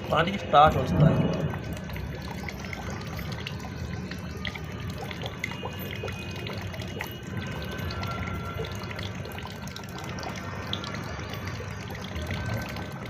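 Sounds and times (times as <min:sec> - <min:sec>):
small water drips: 0:00.0 - 0:13.0
water trickling from nostril: 0:00.0 - 0:13.0.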